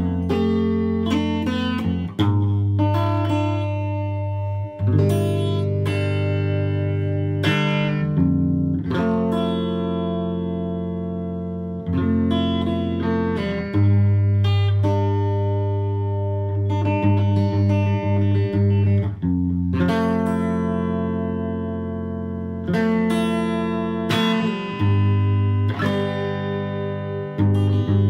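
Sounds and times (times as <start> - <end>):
electric guitar chords: 0.0 - 28.0.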